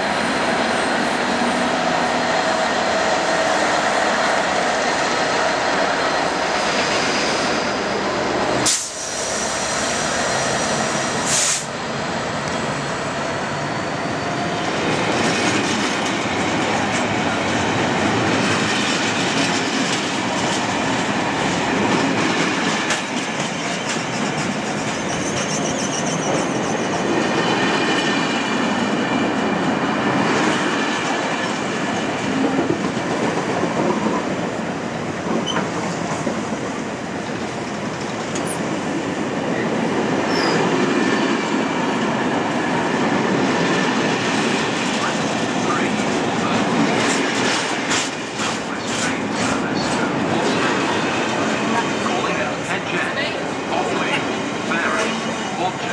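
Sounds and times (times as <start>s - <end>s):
diesel locomotive running: 0.0s - 55.9s
train wheels rattling and squealing: 5.1s - 8.0s, 8.6s - 34.3s, 35.3s - 36.3s, 37.2s - 38.8s, 39.4s - 42.5s, 43.4s - 55.9s.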